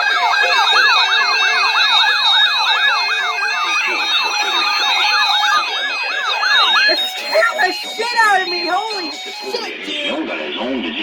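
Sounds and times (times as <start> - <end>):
warbling emergency alert tone: 0.0 - 11.0.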